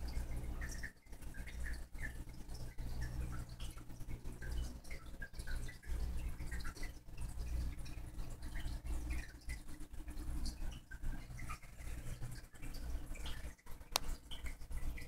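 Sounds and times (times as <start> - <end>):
aquarium water trickling: 0.0 - 15.0
low pump hum: 0.0 - 15.0.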